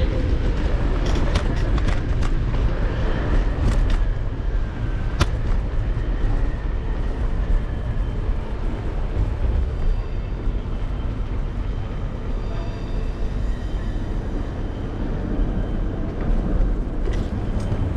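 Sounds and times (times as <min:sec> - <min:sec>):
wind and road noise: 0:00.0 - 0:17.9.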